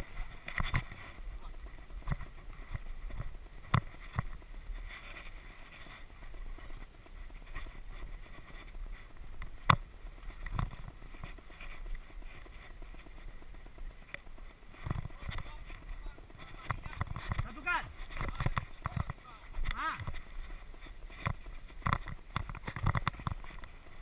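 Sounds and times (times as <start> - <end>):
bike knocking and rattling: 0.0 - 24.0
tyres rumbling on dirt trail: 0.0 - 24.0
wind: 0.0 - 24.0.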